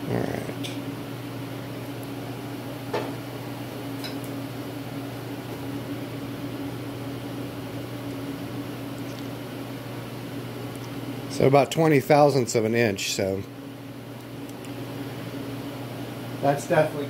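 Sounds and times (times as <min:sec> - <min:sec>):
heater humming: 0:00.0 - 0:17.0.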